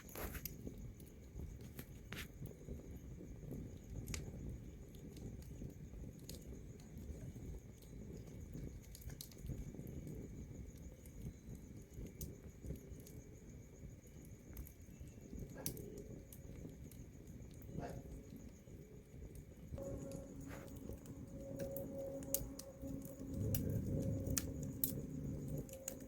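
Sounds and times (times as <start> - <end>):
fire crackling pops: 0.0 - 26.0
wood fire rustling flames: 0.0 - 26.0.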